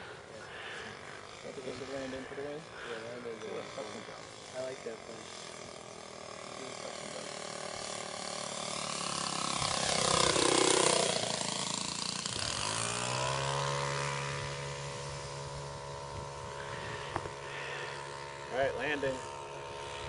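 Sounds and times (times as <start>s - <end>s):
model plane engine flyby: 0.0s - 20.0s.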